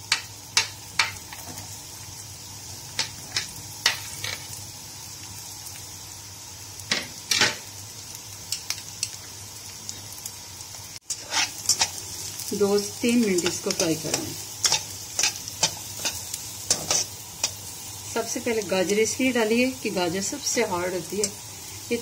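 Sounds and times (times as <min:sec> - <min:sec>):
carrots sizzling in hot oil: 0:00.0 - 0:22.0.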